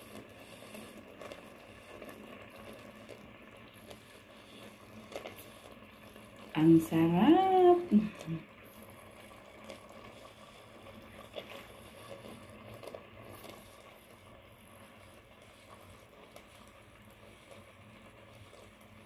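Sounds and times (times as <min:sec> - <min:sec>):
sauce bubbling in pot: 0:00.0 - 0:19.0.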